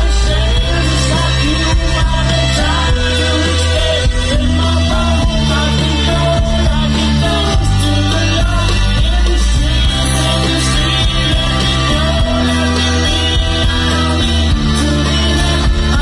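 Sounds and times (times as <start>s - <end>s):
man singing: 0.0s - 16.0s
rock band playing live: 0.0s - 16.0s.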